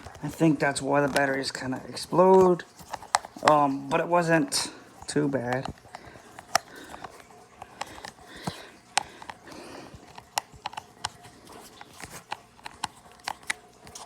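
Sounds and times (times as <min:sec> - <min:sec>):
plastic parts clicking together: 0:00.0 - 0:14.0.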